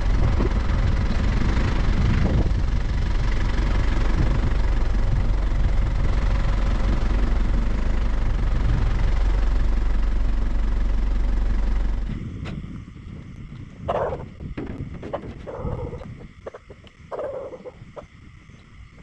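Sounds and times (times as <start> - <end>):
engine-like rumble: 0.0 - 19.0.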